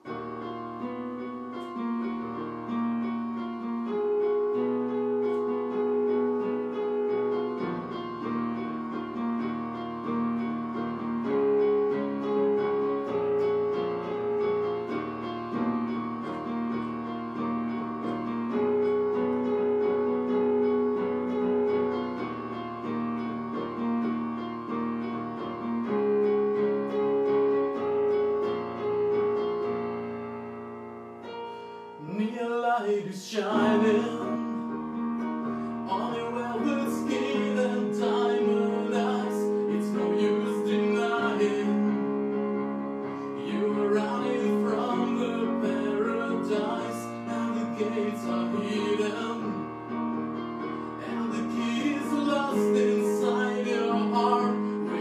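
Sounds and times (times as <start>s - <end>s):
electronic keyboard piano chords: 0.0s - 55.0s.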